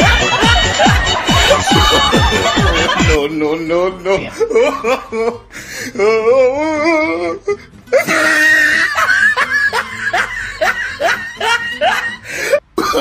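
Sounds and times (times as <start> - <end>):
person laughing loudly: 0.0 - 5.4, 7.9 - 13.0.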